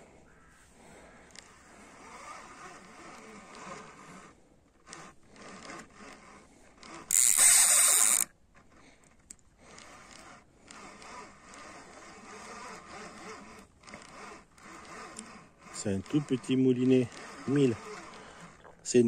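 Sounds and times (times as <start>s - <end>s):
fishing reel gears rasping: 1.0s - 19.0s.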